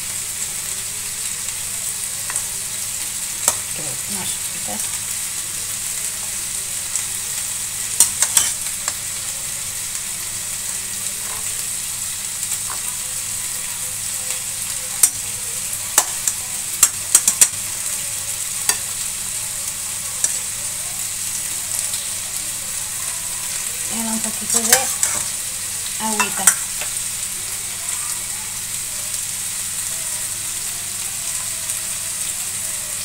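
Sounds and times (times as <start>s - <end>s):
pot boiling: 0.0s - 33.0s.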